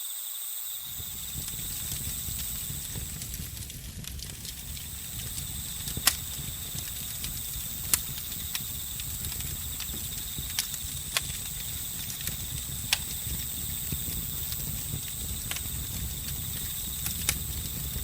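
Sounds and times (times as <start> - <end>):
crickets chirring: 0.0 - 18.0
campfire crackling: 0.8 - 18.0.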